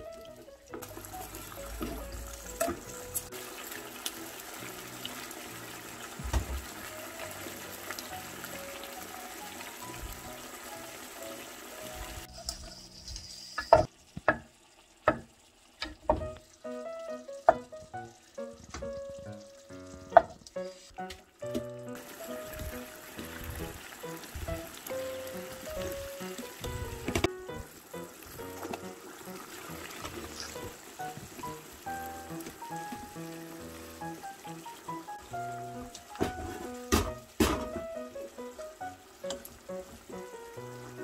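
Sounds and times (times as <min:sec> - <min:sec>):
sauce bubbling and sizzling in a pan: 0:00.0 - 0:41.0.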